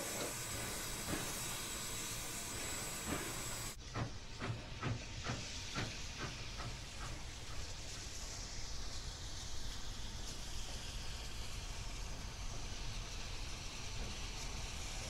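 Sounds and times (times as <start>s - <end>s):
steam locomotive exhaust chuffs: 0.0s - 15.0s
steam locomotive hissing: 0.0s - 15.0s.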